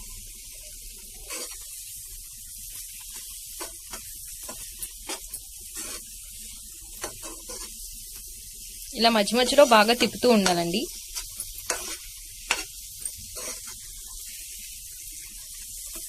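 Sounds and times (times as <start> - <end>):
steel spoon scraping a pan: 0.0 - 1.8, 2.7 - 8.2, 9.1 - 14.4, 15.2 - 16.0
food sizzling in a pan: 0.0 - 16.0.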